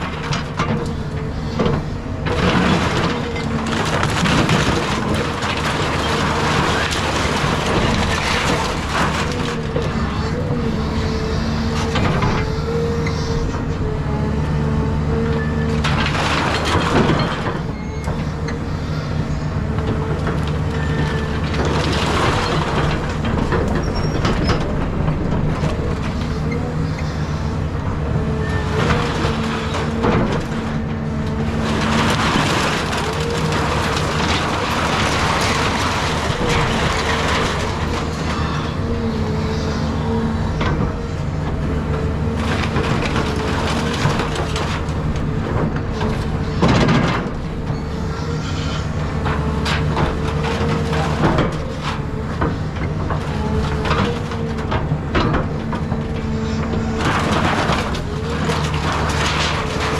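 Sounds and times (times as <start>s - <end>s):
demolition debris crunching: 0.0s - 59.9s
excavator diesel engine running: 0.0s - 59.9s.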